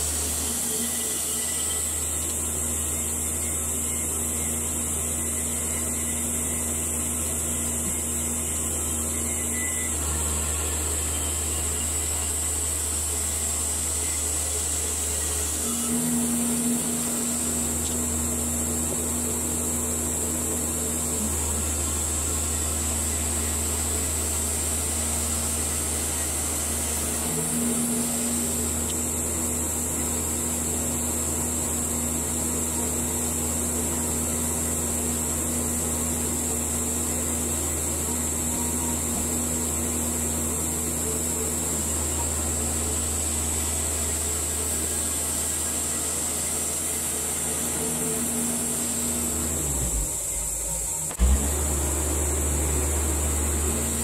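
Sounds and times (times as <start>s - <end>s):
bandsaw mill sawing a log: 0.0s - 50.3s, 51.1s - 54.0s.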